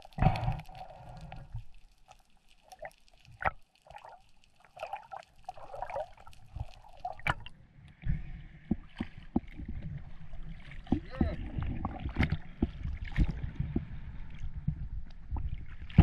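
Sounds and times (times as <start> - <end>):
bubbling gurgles: 0.0 - 1.7, 2.6 - 7.6, 8.6 - 16.0
underwater clicks: 0.0 - 9.9, 10.8 - 16.0.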